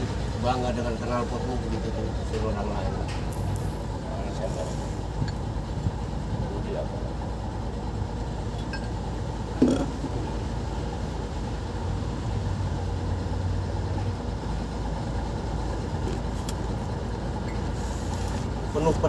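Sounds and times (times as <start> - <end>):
low rumble of machinery: 0.0 - 19.0.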